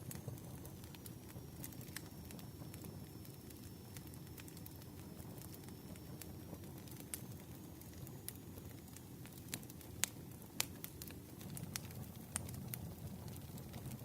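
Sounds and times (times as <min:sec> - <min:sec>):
campfire low rumble: 0:00.0 - 0:14.0
wood crackling and popping: 0:00.0 - 0:14.0.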